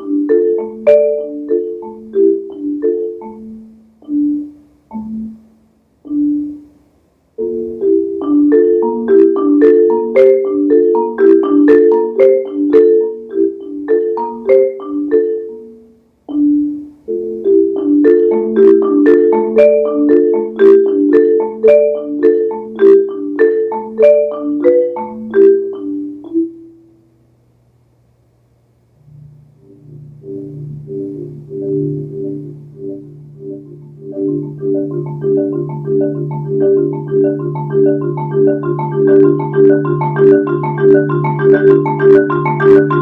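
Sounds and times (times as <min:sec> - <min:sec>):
marimba played with mallets: 0:00.0 - 0:06.8, 0:07.4 - 0:27.0, 0:29.6 - 0:43.0.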